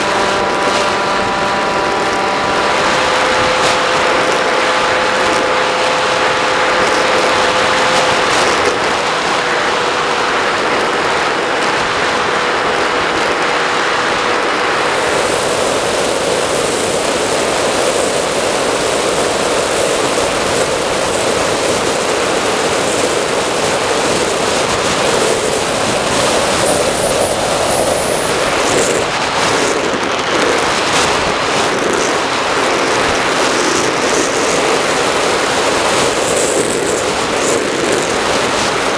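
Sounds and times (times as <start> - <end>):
electric motor and propeller whine: 0.0 - 38.9
wind rush: 0.0 - 38.9.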